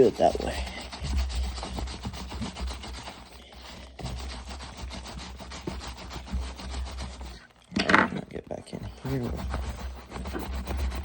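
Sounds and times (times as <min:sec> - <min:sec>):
brush scrubbing leather: 0:00.0 - 0:11.0.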